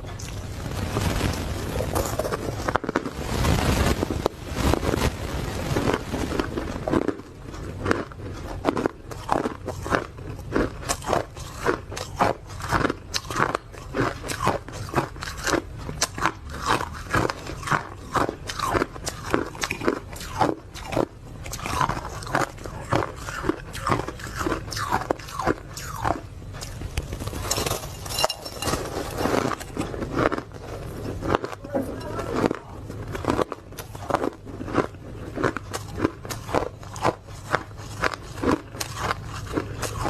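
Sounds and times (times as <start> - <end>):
ice crunching while chewed: 5.8 - 40.0.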